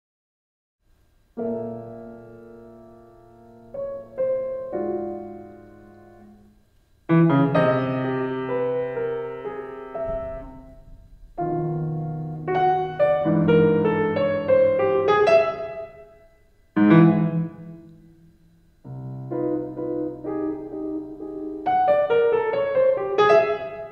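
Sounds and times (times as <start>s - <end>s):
piano playing slow chords: 1.4s - 23.9s.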